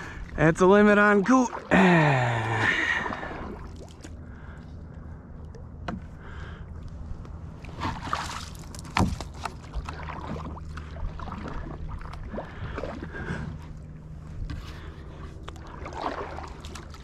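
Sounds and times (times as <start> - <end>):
paddle swishing through water: 0.0 - 6.2, 6.9 - 17.0.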